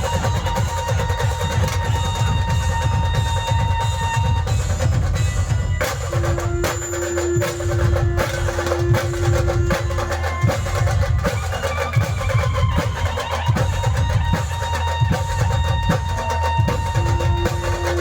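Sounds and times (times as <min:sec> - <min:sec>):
fast heavy drumming: 0:00.0 - 0:18.0.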